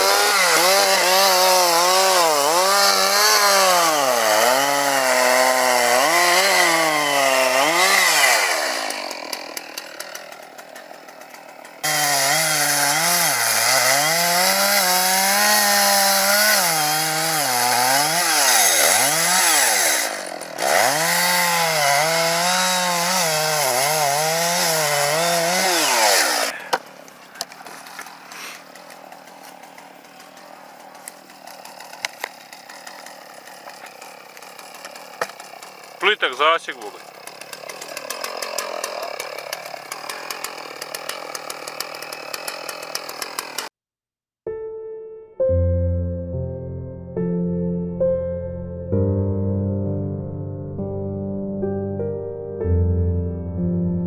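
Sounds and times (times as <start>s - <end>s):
chainsaw cutting wood: 0.0s - 43.8s.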